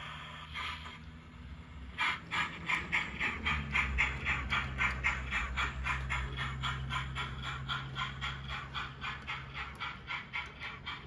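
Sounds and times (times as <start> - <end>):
low train hum on track: 0.0 - 11.0
model steam locomotive chuffing: 0.0 - 11.0.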